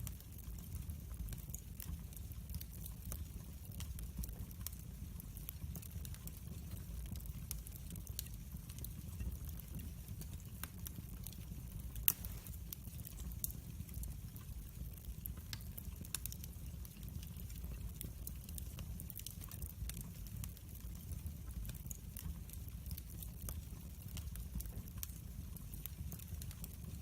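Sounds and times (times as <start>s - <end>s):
log fire crackling and popping: 0.0s - 27.0s.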